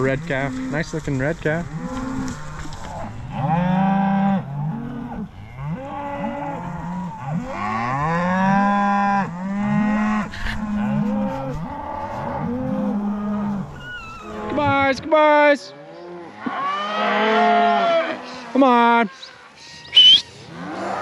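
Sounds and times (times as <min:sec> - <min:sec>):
cattle mooing: 0:00.0 - 0:14.9, 0:15.6 - 0:21.0.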